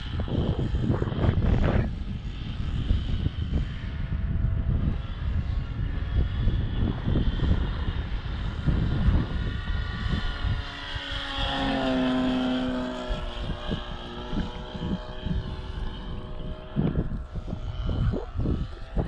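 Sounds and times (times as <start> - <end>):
model airplane engine buzzing: 0.0 - 19.0
wind buffeting microphone: 0.0 - 19.0.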